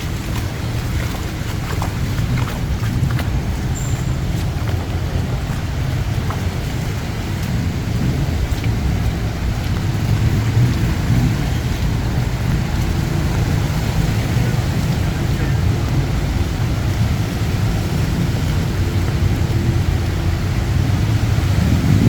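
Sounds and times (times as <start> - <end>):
heavy rain pouring: 0.0 - 22.0
low rumble: 0.0 - 22.0.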